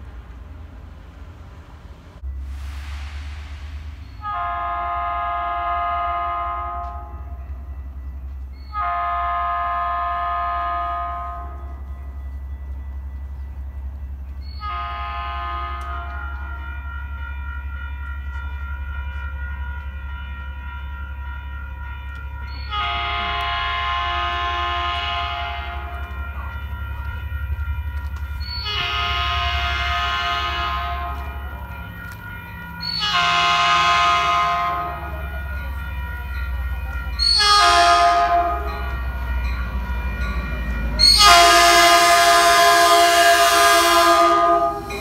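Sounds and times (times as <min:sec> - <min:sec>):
low rumble of train: 0:00.0 - 0:45.0
train horn blasts: 0:04.2 - 0:07.7, 0:08.6 - 0:11.9, 0:14.4 - 0:45.0.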